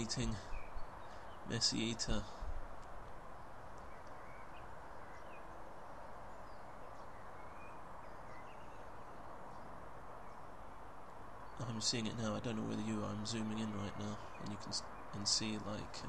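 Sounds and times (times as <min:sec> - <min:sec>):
faint bird chirps: 0:00.0 - 0:16.0
outdoor background noise: 0:00.0 - 0:16.0.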